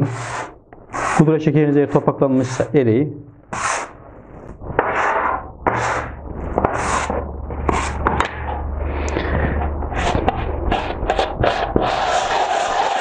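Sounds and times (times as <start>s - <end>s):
plastic scraper on marble: 0.0s - 2.7s, 3.5s - 8.5s, 9.1s - 13.0s.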